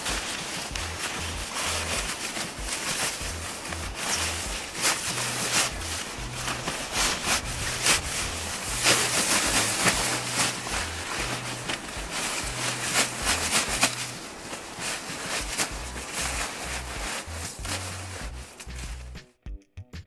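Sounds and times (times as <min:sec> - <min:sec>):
background music with bass line: 0:00.0 - 0:14.3, 0:15.4 - 0:20.0
tent fabric rustling and scraping: 0:00.0 - 0:19.2.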